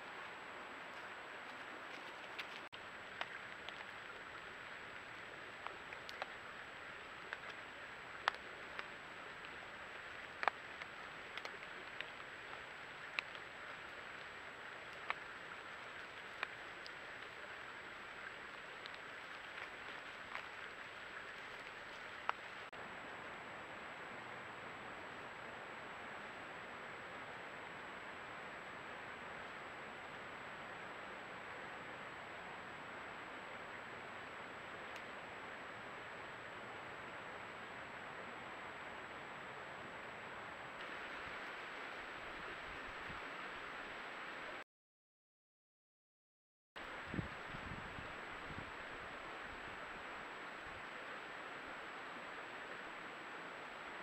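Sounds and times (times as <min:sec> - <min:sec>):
recording hiss: 0:00.0 - 0:44.6, 0:46.8 - 0:54.0.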